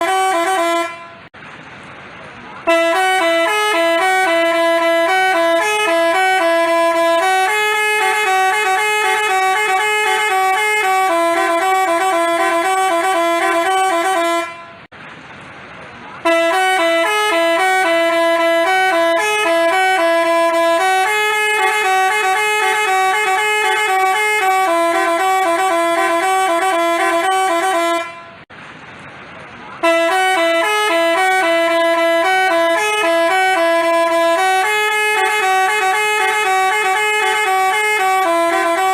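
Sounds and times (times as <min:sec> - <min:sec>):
buzzy bus horn tune: 0:00.0 - 0:01.4, 0:02.6 - 0:14.9, 0:16.2 - 0:28.5, 0:29.8 - 0:38.9.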